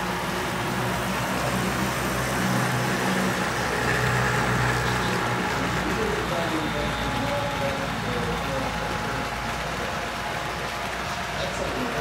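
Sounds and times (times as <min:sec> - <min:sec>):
model locomotive engine drone: 0:00.0 - 0:12.0
train rolling noise: 0:00.0 - 0:12.0.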